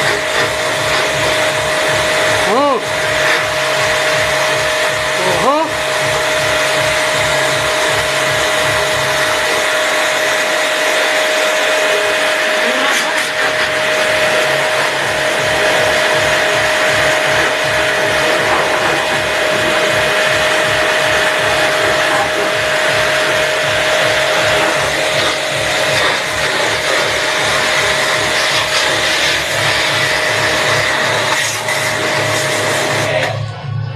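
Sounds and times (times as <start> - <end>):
machine motor whining: 0.0 - 33.9.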